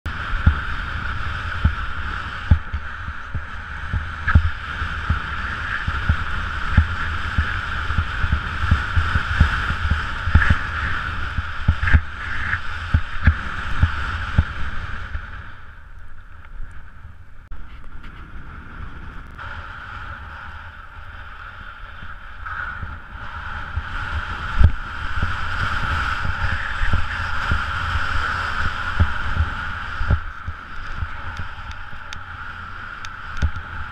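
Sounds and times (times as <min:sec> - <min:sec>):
skis on snow and wind rush: 0:00.1 - 0:33.9.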